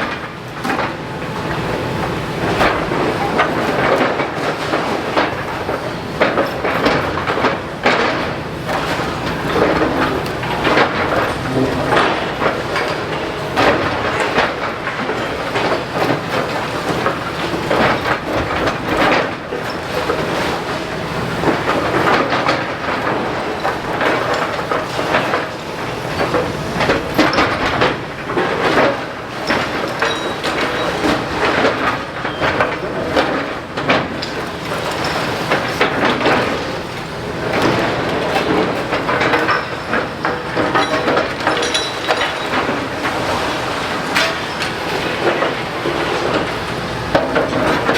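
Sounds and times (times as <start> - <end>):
falling masonry crunching: 0.0 - 47.9.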